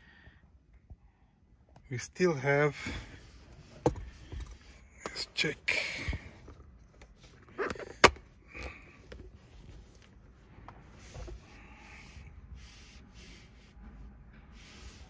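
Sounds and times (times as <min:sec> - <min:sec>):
faint rustling and handling: 0:02.6 - 0:15.0.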